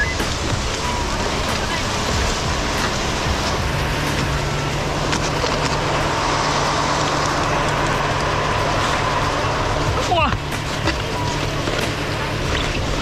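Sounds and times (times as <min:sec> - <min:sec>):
snowboard sliding over snow: 0:00.0 - 0:13.0.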